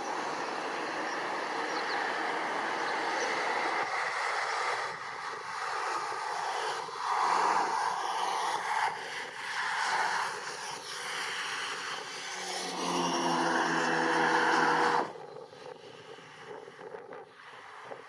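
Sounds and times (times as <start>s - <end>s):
distant jet engine roar: 0.0s - 18.0s
wind on microphone: 0.0s - 18.0s.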